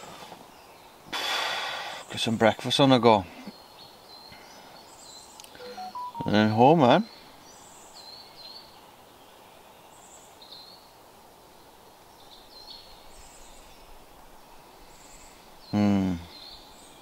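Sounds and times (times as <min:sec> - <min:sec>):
faint birds chirping: 0:00.0 - 0:17.0
steady background hiss: 0:00.0 - 0:17.0.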